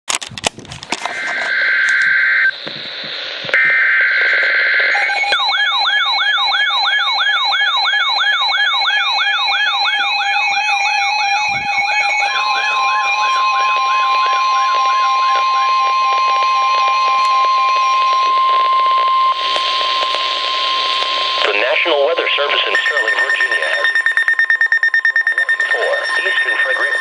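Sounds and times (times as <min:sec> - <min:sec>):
warbling siren-like alarms: 0:01.0 - 0:02.6, 0:03.5 - 0:21.4, 0:22.6 - 0:27.0
steady warning tone: 0:01.1 - 0:27.0.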